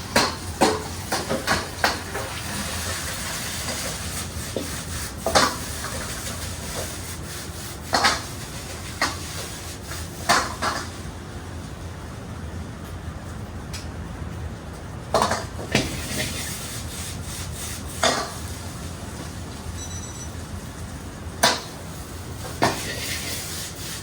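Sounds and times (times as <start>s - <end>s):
wok sizzling: 0.0s - 11.4s, 15.2s - 24.0s.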